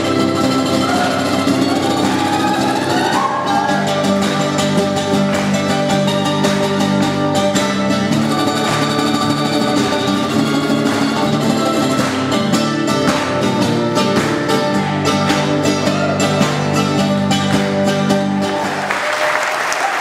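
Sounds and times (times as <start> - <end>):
acoustic guitar picking: 0.0 - 18.8
mandolin picking: 0.0 - 18.8.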